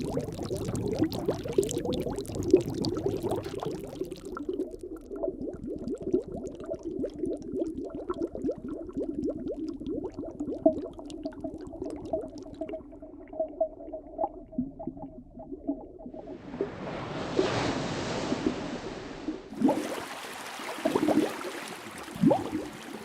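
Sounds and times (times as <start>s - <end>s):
underwater bubbles gurgling: 0.0s - 23.0s.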